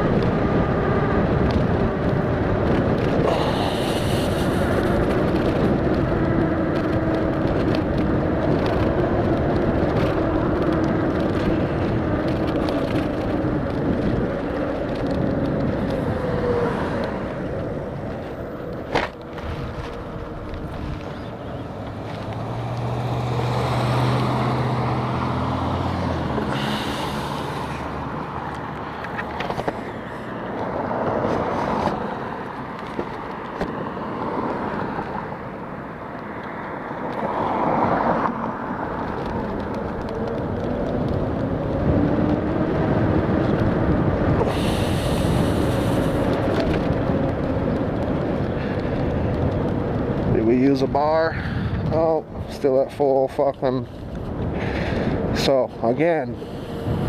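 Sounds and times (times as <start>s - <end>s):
vehicles passing: 0.0s - 57.0s
wind and road noise: 0.0s - 57.0s.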